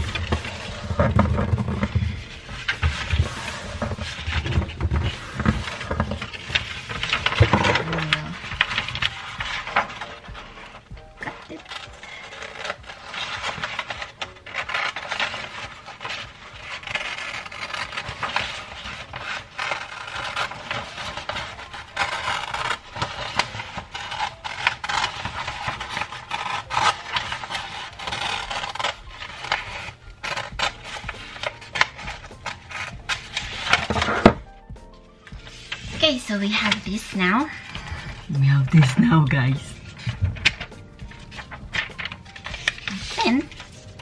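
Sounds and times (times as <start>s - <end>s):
scissors cutting paper: 0.0s - 34.5s, 35.1s - 44.0s
wrapping paper rustling: 0.0s - 44.0s.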